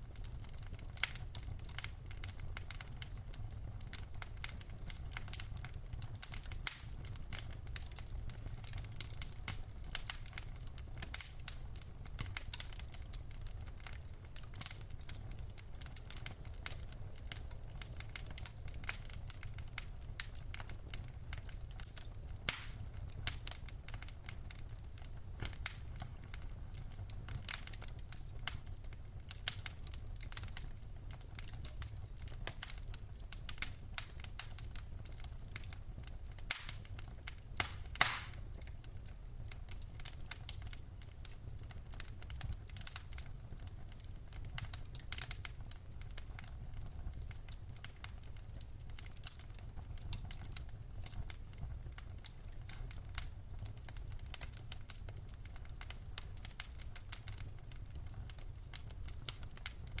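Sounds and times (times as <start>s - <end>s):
low fire rumble: 0.0s - 60.0s
wood fire crackling: 0.0s - 60.0s
burning logs popping: 0.1s - 60.0s.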